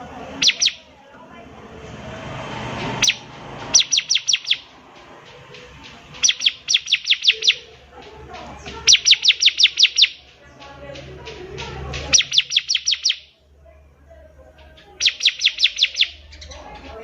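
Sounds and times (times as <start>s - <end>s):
bird singing rapid falling notes: 0.0s - 1.0s, 2.7s - 13.4s, 14.5s - 17.0s.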